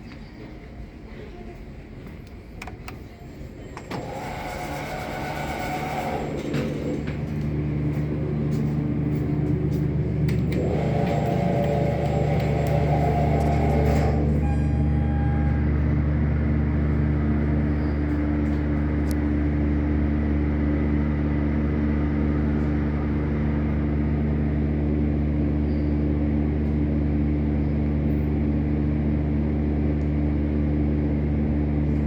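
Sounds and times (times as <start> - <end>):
elevator humming: 0.2 - 32.0.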